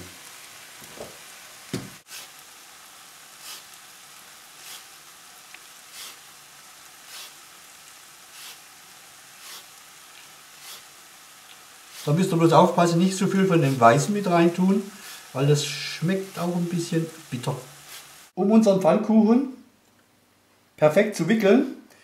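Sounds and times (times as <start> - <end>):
faint sizzle of cooking meat: 0.0 - 18.4.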